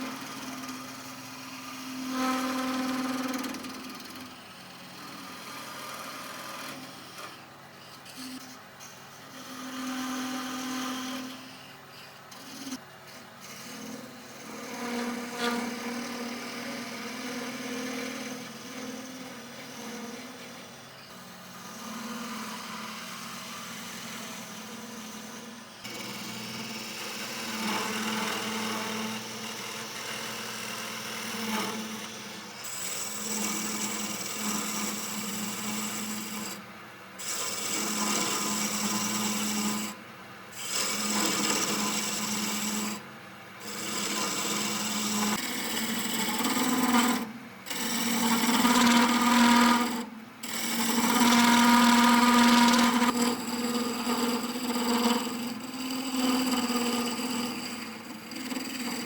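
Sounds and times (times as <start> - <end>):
wood lathe motor hum: 0.0 - 8.6, 9.2 - 36.6, 37.2 - 59.0
tool scraping spinning wood: 0.0 - 36.6, 43.6 - 59.0.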